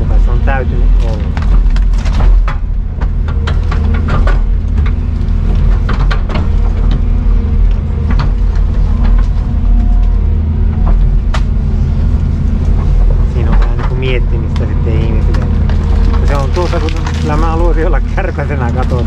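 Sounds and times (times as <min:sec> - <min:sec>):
vehicle interior drone: 0:00.0 - 0:19.0.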